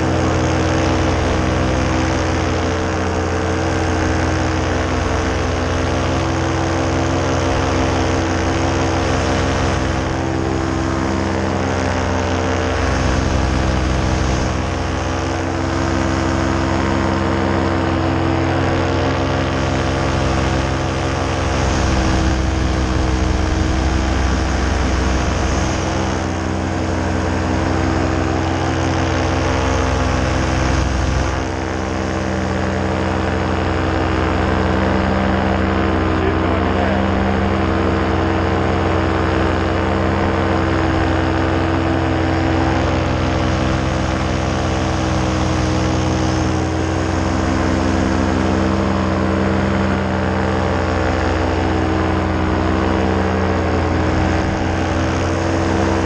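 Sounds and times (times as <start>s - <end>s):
paramotor engine and propeller droning: 0.0s - 56.0s.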